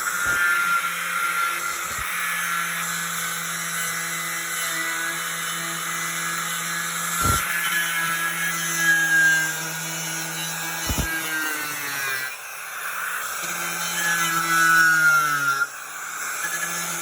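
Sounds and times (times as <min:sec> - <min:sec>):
angle grinder with wire wheel: 0:00.0 - 0:17.0.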